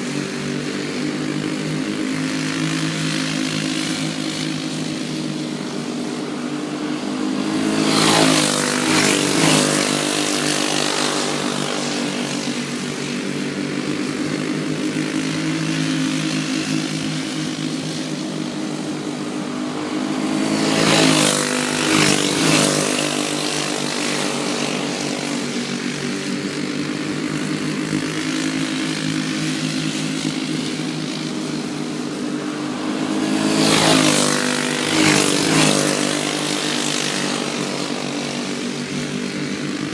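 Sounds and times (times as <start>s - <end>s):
go-kart engines passing by: 0.0s - 39.9s.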